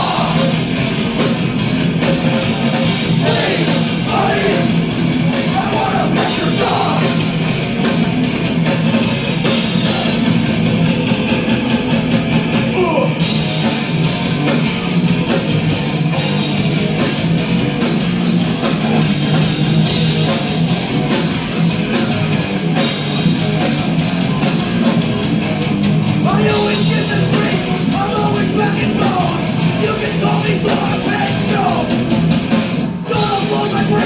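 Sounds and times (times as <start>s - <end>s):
distorted electric guitars: 0.0s - 34.0s
fast driving drums: 0.0s - 34.0s.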